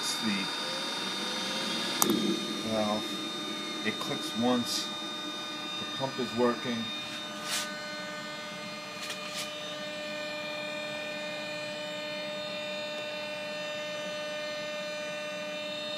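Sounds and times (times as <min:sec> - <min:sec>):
electric motor whine: 0:00.0 - 0:15.9.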